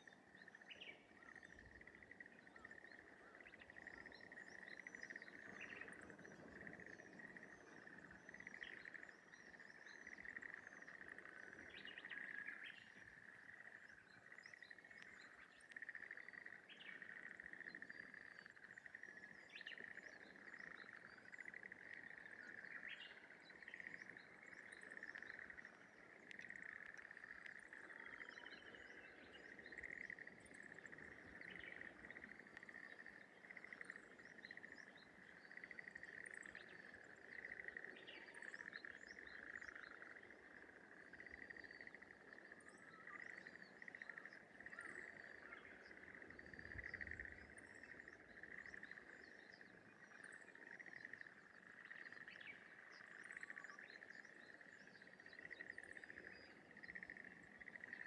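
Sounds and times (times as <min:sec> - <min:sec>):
frogs calling: 0:00.0 - 0:58.0.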